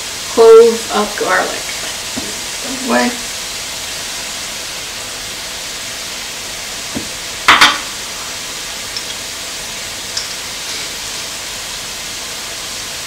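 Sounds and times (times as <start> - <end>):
meat and onion sizzling in skillet: 0.0 - 13.0.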